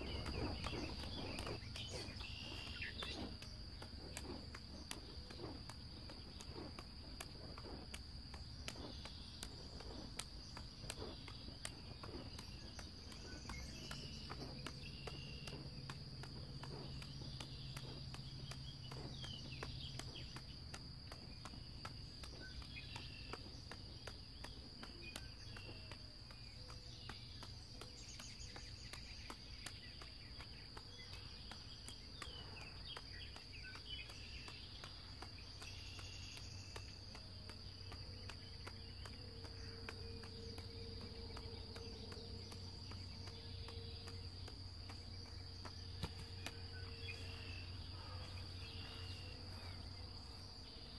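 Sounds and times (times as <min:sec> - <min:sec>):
faint light clicks: 0:00.0 - 0:50.4
birds chirping: 0:00.0 - 0:50.9
crickets droning: 0:00.0 - 0:50.9.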